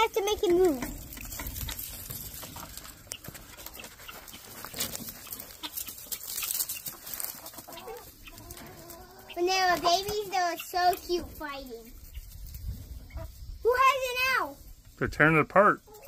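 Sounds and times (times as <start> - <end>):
chickens clucking: 0.0 - 15.0, 15.8 - 16.0
pecks and rustles in straw: 0.0 - 15.0.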